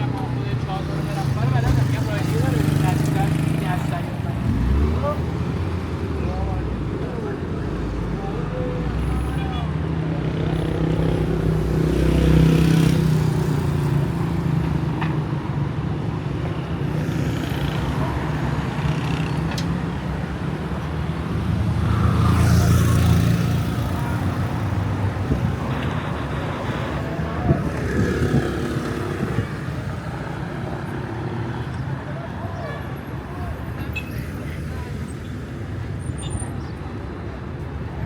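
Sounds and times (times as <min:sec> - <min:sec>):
vehicles passing by: 0:00.0 - 0:38.0.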